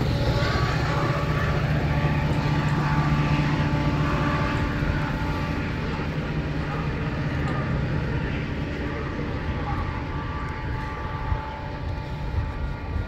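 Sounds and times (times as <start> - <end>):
diesel locomotive engine hum: 0.0 - 13.0
train low rumble: 0.0 - 13.0.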